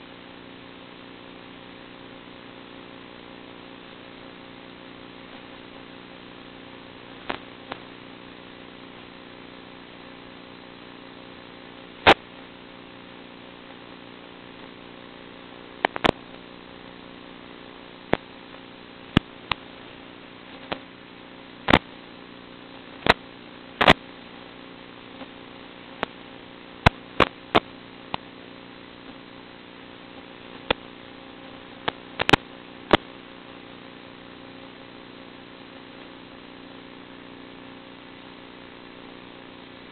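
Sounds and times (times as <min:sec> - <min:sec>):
radio crackle clicks and pops: 0:00.0 - 0:39.9
steady electrical buzz: 0:00.0 - 0:39.9.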